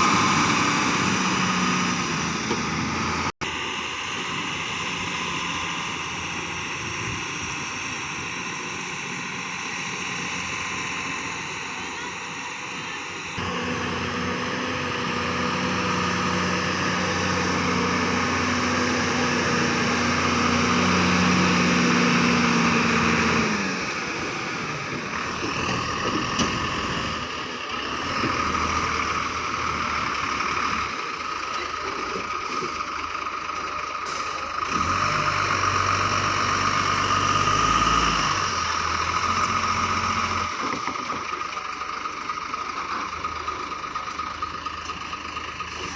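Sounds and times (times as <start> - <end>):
diesel engine working under load: 0.0 - 45.9.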